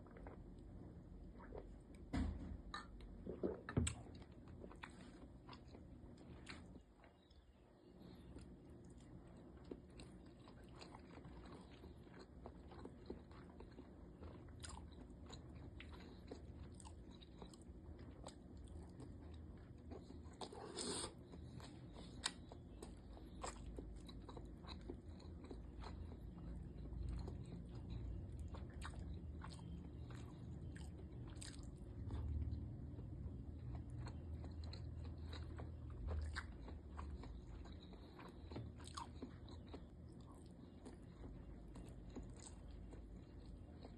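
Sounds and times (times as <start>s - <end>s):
person chewing food: 0.0s - 2.1s, 2.7s - 43.9s
low steady hum: 0.0s - 43.9s.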